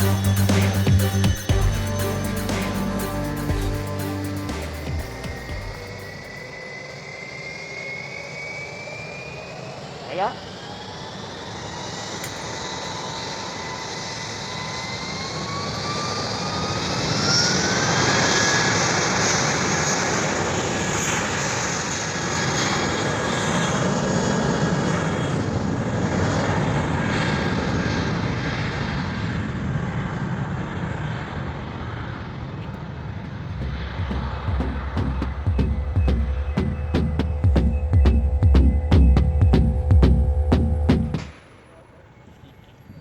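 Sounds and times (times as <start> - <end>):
jet engines spooling up: 0.0 - 42.3.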